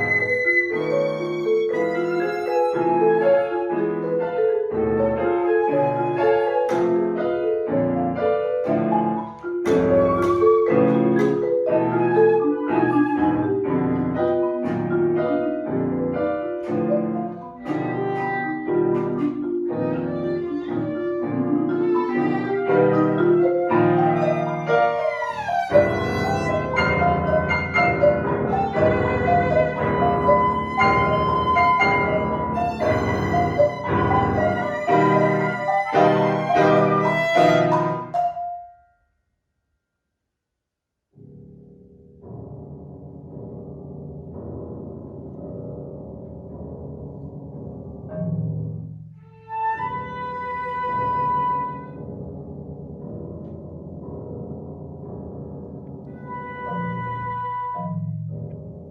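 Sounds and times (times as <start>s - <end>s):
contemporary chamber music: 0.0s - 38.8s, 42.1s - 58.9s.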